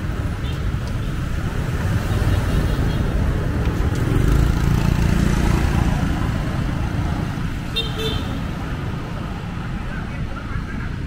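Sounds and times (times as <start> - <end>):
traffic rumble and road noise: 0.0 - 11.0.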